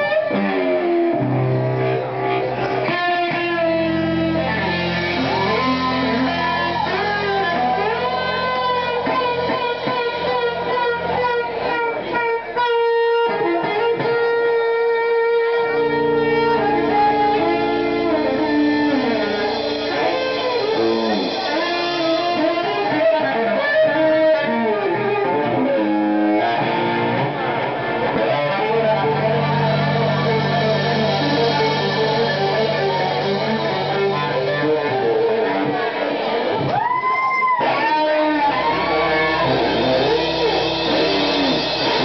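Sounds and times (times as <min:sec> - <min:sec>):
electric guitar: 0:00.0 - 0:42.0
live rock band: 0:00.0 - 0:42.0.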